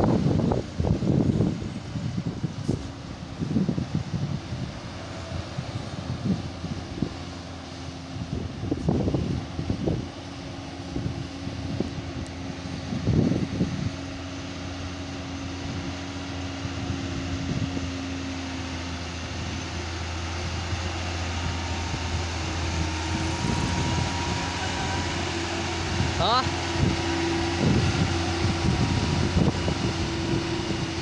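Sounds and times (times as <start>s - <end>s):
diesel lorry driving by: 0.0s - 31.0s
wind buffeting microphone: 0.0s - 31.0s.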